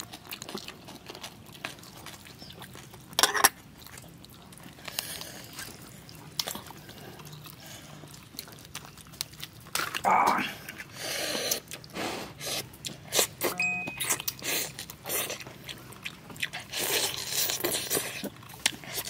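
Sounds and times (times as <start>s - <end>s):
wet chewing and smacking: 0.0s - 19.0s.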